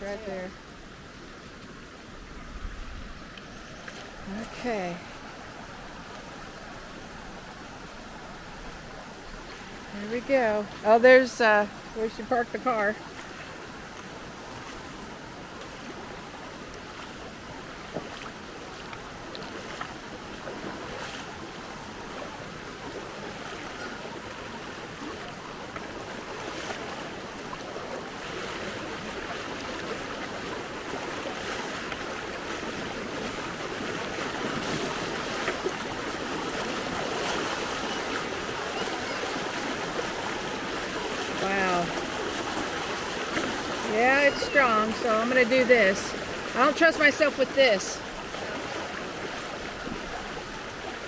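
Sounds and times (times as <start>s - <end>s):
water rushing over stones: 0.0s - 51.0s.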